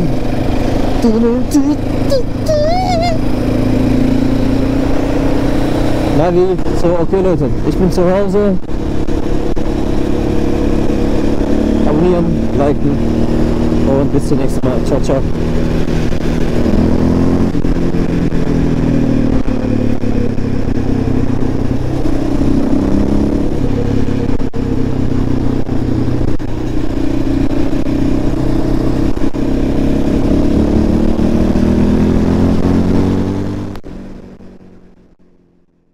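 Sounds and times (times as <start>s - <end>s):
quad bike engine revving: 0.0s - 34.1s.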